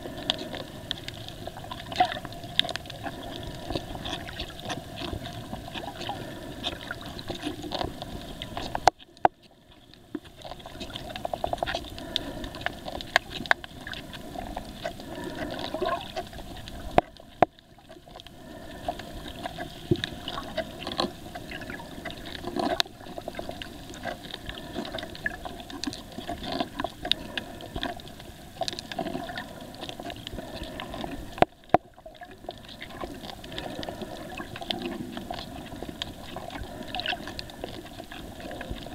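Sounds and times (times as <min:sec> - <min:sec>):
clicks and crackles: 0:00.0 - 0:38.9
underwater water rush: 0:00.0 - 0:38.9.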